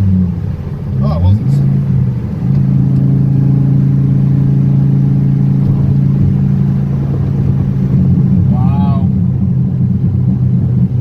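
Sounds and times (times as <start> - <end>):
car engine and exhaust droning: 0.0 - 11.0.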